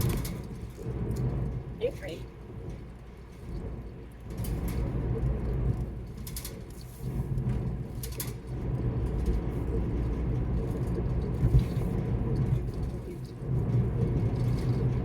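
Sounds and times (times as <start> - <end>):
car engine rumble inside cabin: 0.0 - 15.0.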